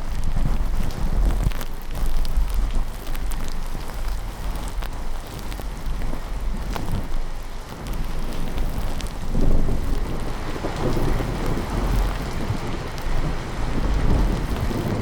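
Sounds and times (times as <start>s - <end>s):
heavy rain: 0.0s - 15.0s
light ticks: 0.0s - 15.0s
low rumble of thunder: 0.0s - 15.0s.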